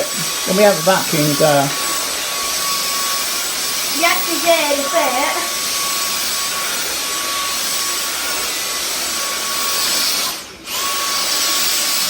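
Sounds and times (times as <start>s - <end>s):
stick vacuum whining: 0.0s - 12.0s.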